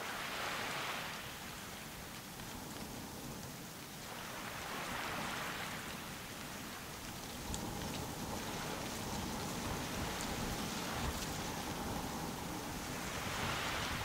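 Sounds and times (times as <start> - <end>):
waves lapping on beach: 0.0 - 14.0.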